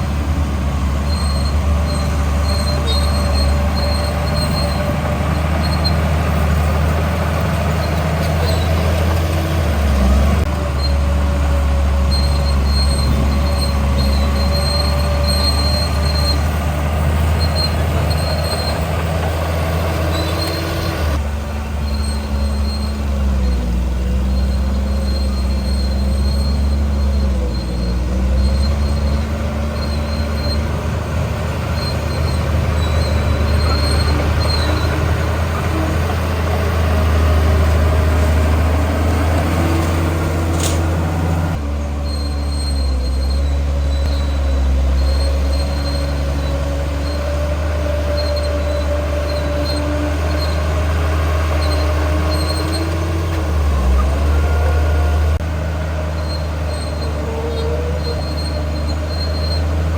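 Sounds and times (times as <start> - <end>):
steel tracks squealing: 0.0 - 55.4, 56.1 - 59.9
bulldozer diesel engine: 0.0 - 59.9.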